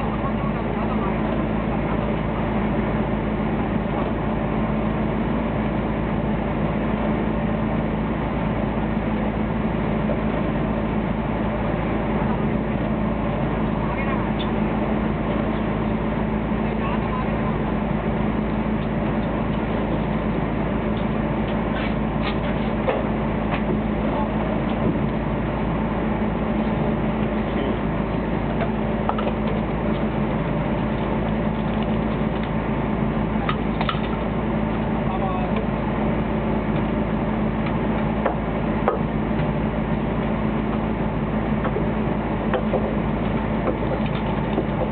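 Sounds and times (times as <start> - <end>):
boat engine running: 0.0 - 44.9.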